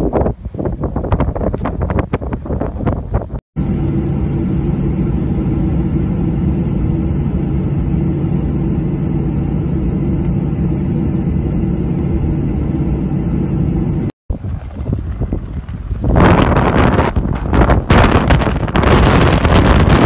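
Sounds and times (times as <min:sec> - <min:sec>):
machinery humming rumble: 0:03.6 - 0:20.0.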